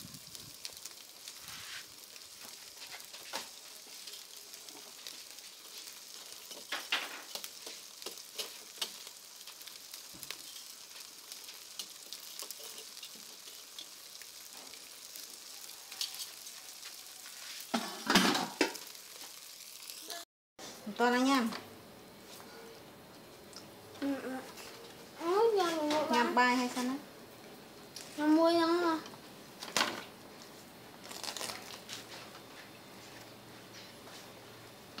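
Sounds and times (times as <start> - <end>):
charcoal crackles and pops: 0.0 - 20.2, 22.2 - 35.0
fish sizzling on a grill: 0.0 - 35.0.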